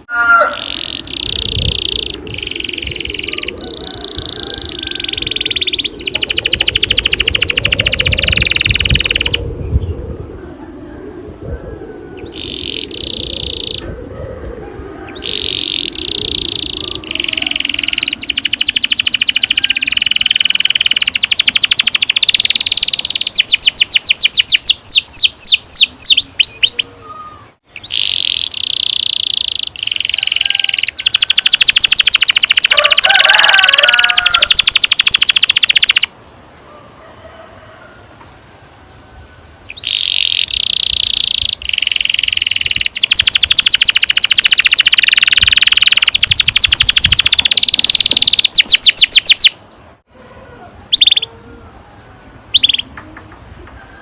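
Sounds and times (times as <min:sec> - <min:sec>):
canary singing trills: 0:00.0 - 0:09.9, 0:12.2 - 0:14.0, 0:15.0 - 0:36.9, 0:39.6 - 0:53.2.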